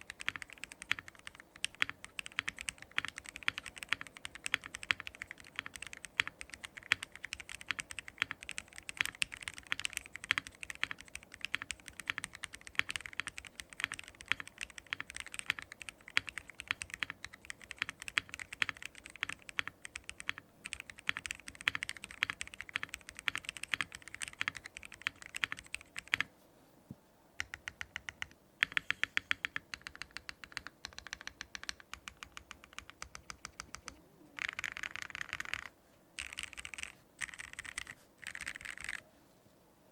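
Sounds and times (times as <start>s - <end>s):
mechanical keyboard typing: 0.0s - 26.3s, 27.4s - 39.0s.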